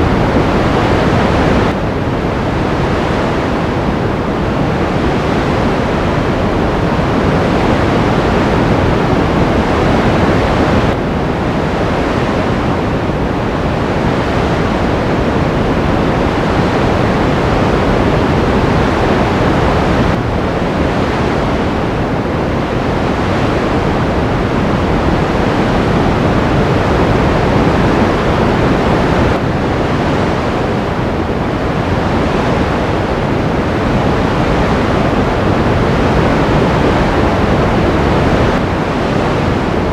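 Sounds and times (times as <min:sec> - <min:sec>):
ocean surf rushing: 0:00.0 - 0:39.9.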